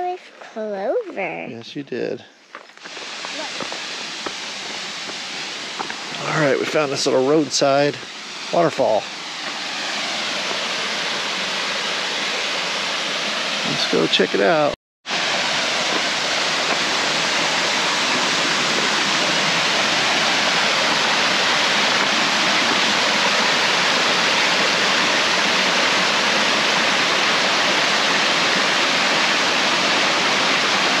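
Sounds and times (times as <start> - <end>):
waterfall rushing: 2.8 - 31.0.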